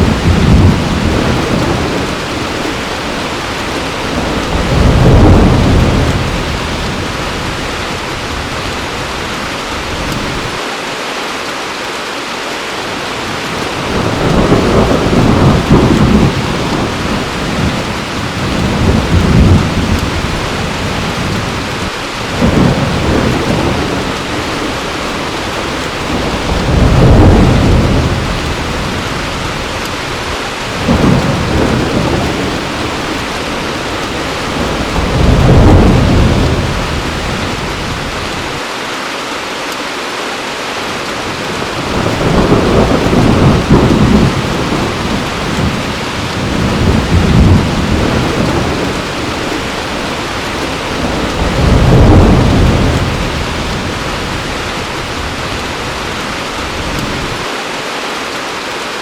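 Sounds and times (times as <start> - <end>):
thunder rumbling: 0.0 - 10.6, 13.2 - 38.6, 41.2 - 57.5
heavy rain: 0.0 - 59.0.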